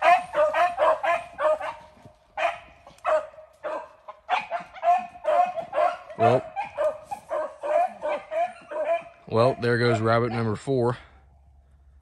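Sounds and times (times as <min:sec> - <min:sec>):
dogs baying: 0:00.0 - 0:10.8.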